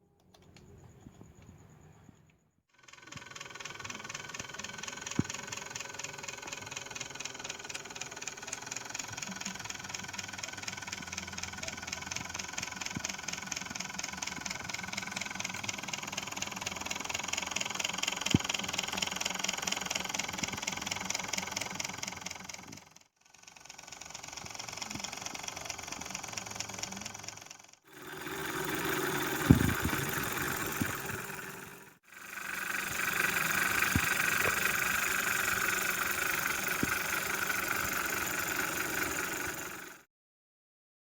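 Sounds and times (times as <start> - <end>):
model truck engine running: 2.8 - 40.1.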